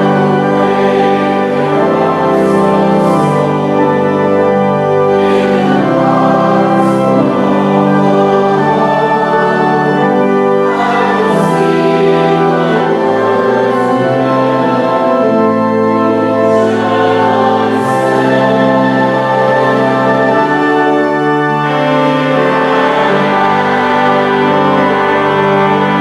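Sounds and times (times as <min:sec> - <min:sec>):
organ: 0:00.0 - 0:26.0
voices singing a hymn: 0:00.0 - 0:26.0.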